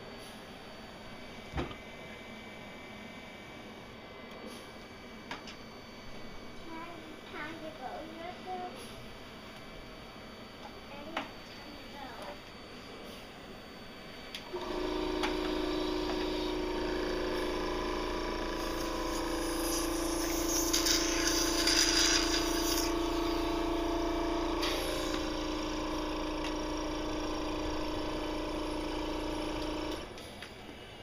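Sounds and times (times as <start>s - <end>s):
machine motor hum: 0.0s - 31.0s.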